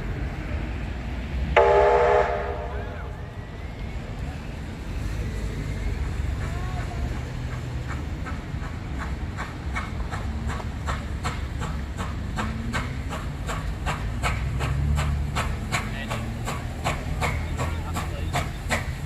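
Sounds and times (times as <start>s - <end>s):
steam locomotive exhaust chuffs: 0.0s - 19.0s.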